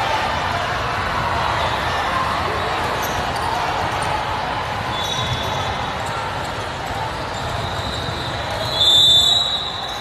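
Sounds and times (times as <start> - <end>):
murmur of crowd voices: 0.0 - 10.0.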